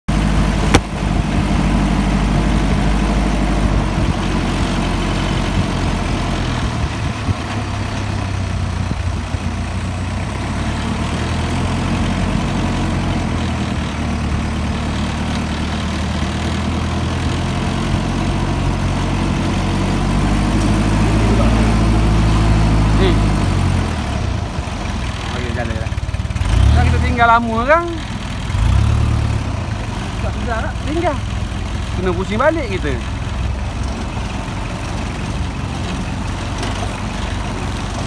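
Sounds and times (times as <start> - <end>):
engine running at low revs: 0.1 - 38.0.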